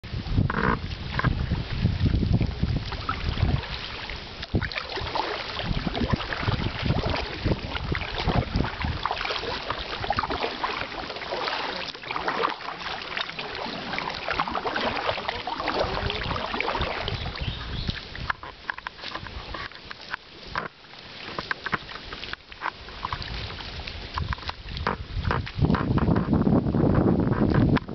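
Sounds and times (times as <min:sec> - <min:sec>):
wind rumble on microphone: 0:00.0 - 0:11.0, 0:13.4 - 0:20.7, 0:21.4 - 0:27.9
water washing along hull: 0:00.0 - 0:27.9
paddles splashing and dripping: 0:00.2 - 0:26.3.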